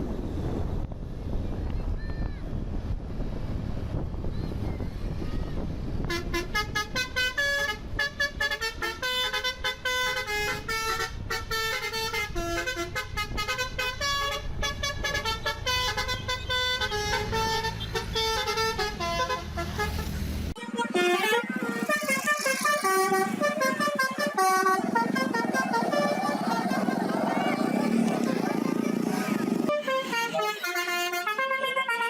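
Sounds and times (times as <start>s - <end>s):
engine rumble: 0.0s - 31.8s
wind: 0.0s - 32.0s
multi-tone bus horn melody: 6.0s - 32.0s.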